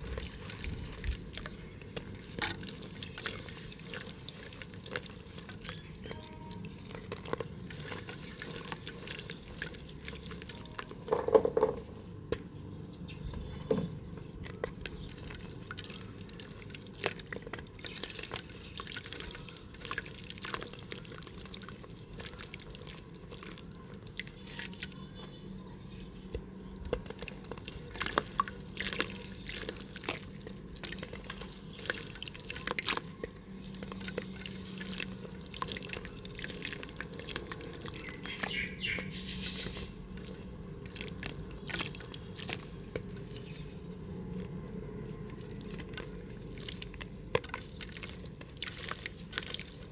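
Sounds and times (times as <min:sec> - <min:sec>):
mud crackling in a pot: 0:00.0 - 0:49.9.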